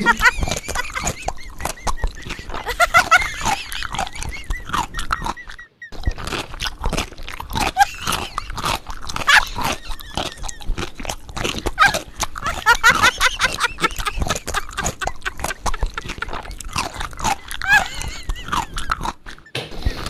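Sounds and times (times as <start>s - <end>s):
person chewing cake: 0.0s - 20.0s.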